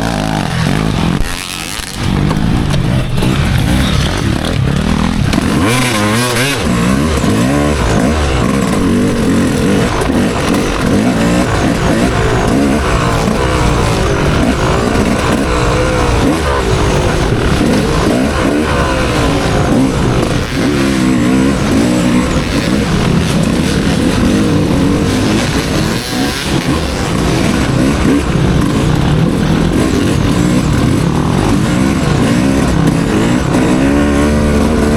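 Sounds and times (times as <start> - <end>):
motocross engine revving: 0.0 - 34.9
steady rushing noise: 0.0 - 34.9.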